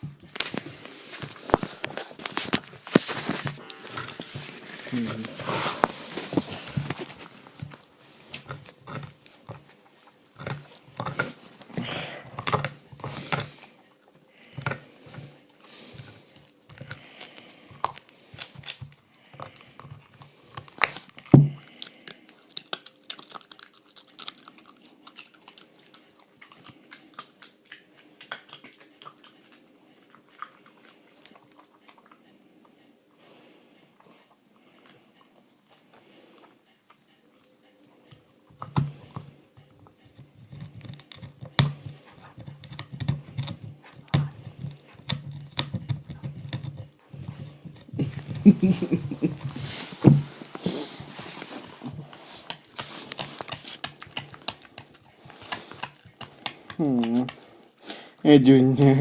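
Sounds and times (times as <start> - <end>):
dog gnawing on a bone: 0.0 - 59.0.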